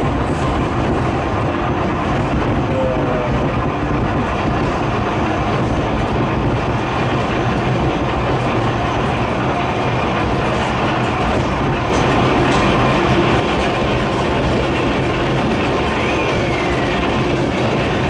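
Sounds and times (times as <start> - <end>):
wheels running on rails: 0.0 - 18.0.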